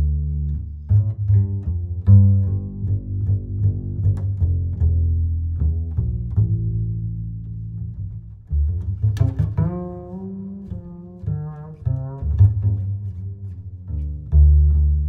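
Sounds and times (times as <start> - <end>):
bowed and plucked strings music: 0.0 - 15.0.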